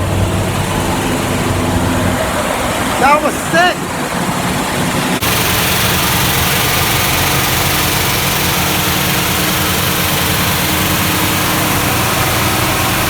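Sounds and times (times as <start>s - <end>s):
car engine running loudly: 0.0s - 13.0s.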